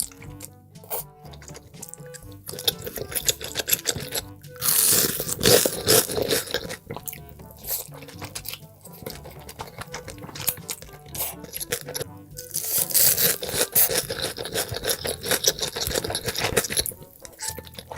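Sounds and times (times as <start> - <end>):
background music: 0.0 - 17.9
crunching and chewing: 0.0 - 17.9.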